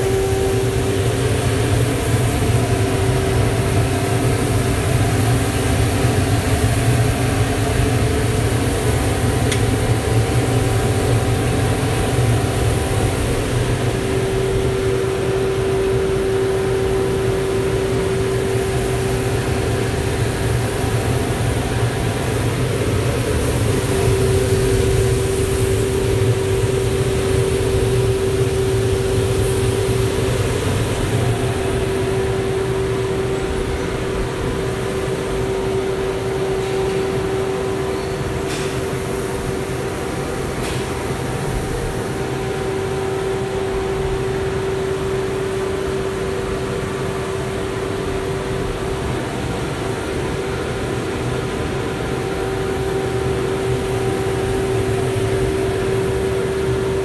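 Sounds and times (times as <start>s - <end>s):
coffee roaster fans humming: 0.0s - 57.0s.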